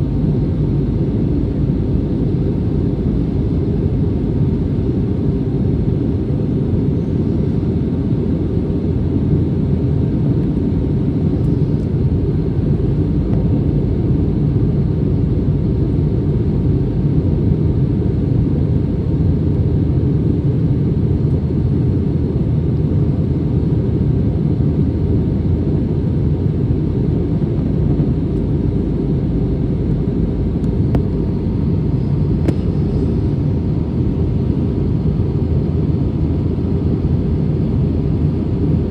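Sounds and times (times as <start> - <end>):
airliner engine low rumble: 0.0 - 38.9
faint steady hum: 0.0 - 38.9.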